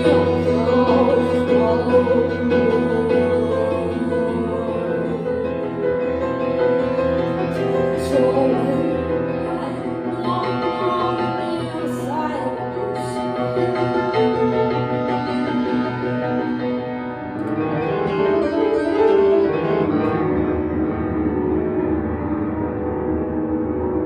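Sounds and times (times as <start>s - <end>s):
solo piano improvisation: 0.0s - 24.0s.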